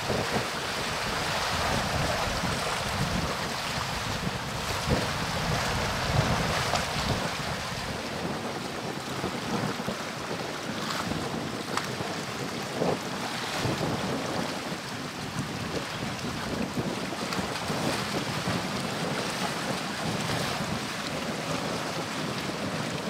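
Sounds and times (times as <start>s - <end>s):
rushing water: 0.0s - 23.0s
wind gusting on microphone: 0.0s - 23.0s.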